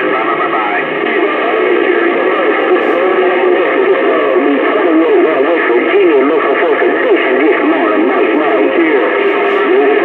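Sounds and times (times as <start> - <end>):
garbled voices over a radio: 0.0 - 10.0.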